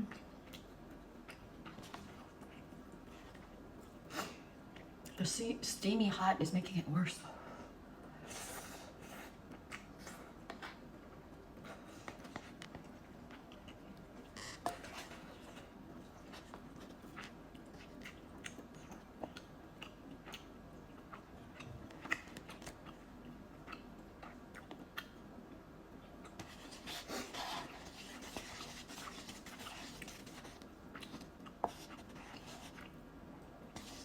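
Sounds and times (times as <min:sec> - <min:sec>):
wet chewing of noodles: 0:00.0 - 0:05.2, 0:08.1 - 0:34.0.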